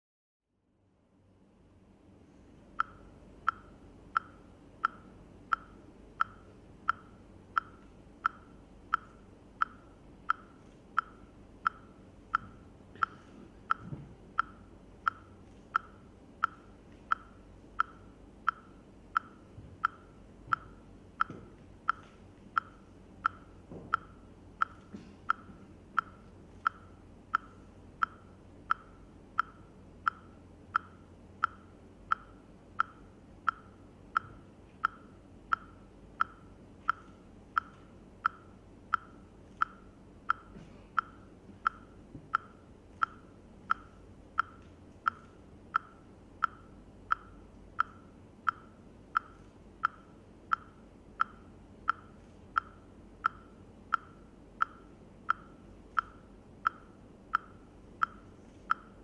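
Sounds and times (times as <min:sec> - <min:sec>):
metronome ticking: 0:02.8 - 0:59.0.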